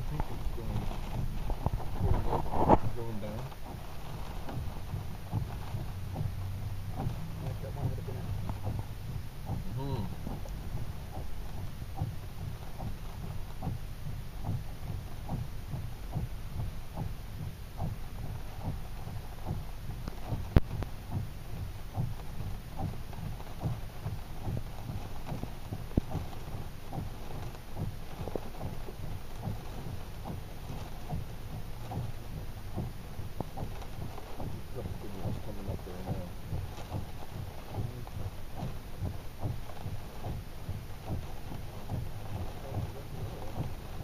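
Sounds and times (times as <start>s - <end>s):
low thumps of wind: 0.0s - 44.0s.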